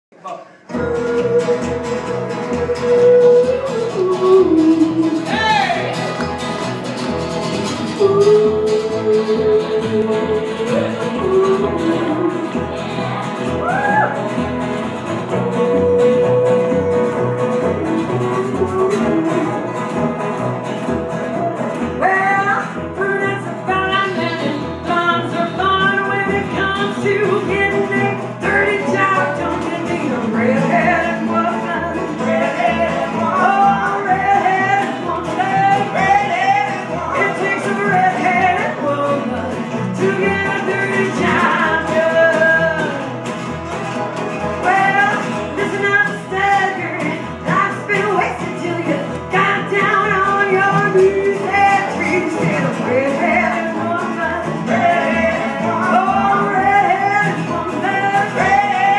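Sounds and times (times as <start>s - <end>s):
bluegrass band playing: 0.3s - 58.9s
woman singing: 0.7s - 6.2s, 7.8s - 14.2s, 15.2s - 20.0s, 21.7s - 43.2s, 44.6s - 58.9s.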